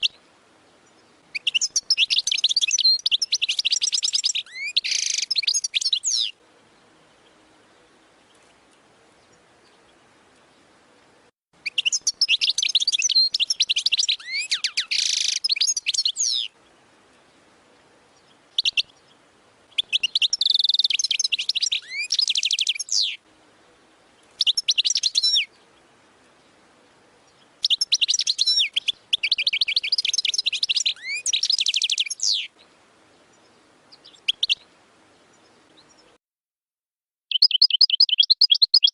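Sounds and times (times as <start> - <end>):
goldfinch twittering song: 0.0 - 10.7, 11.6 - 23.2, 24.2 - 36.2, 37.3 - 38.9.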